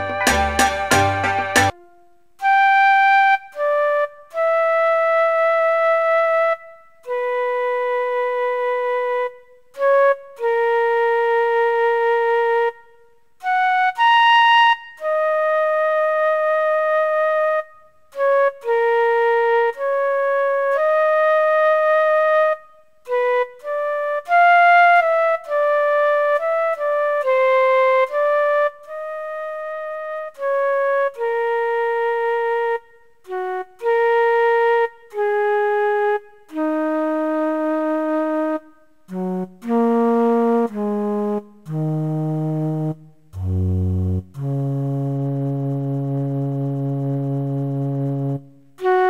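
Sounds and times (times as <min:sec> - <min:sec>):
slow wind instrument melody: 0:00.0 - 0:49.0.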